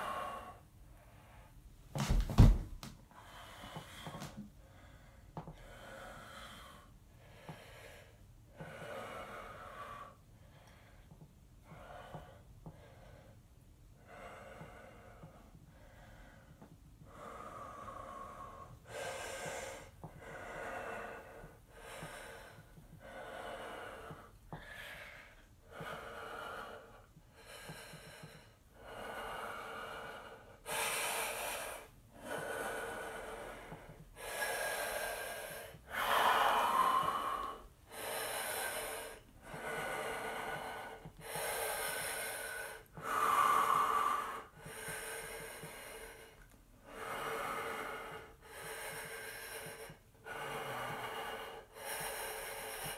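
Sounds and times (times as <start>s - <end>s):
man breathing hard: 0.0s - 52.9s.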